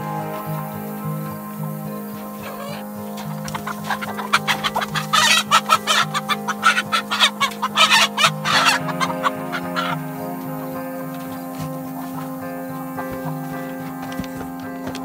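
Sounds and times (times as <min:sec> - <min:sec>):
background music with held notes: 0:00.0 - 0:15.0
chickens squawking and clucking: 0:00.0 - 0:15.0.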